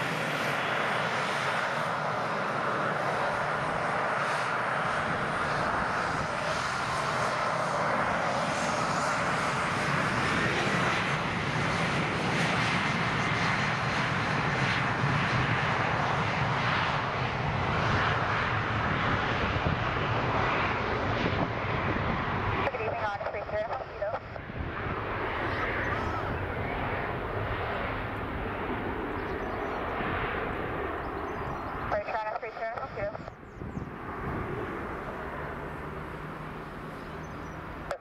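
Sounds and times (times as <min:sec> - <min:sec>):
jet engines at high thrust: 0:00.0 - 0:38.0.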